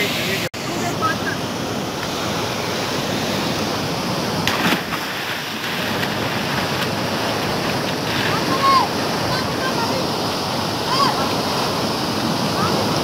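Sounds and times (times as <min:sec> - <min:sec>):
water rushing through channel: 0:00.0 - 0:13.0.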